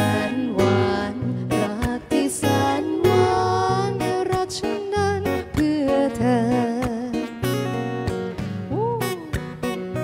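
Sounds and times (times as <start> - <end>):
acoustic guitar strummed: 0.0 - 10.0
person singing pop ballad: 0.0 - 10.0.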